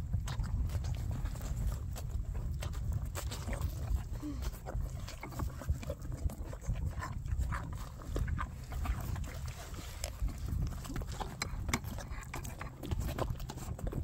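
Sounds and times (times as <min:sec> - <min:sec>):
foal slurping and chewing feed: 0:00.0 - 0:14.0.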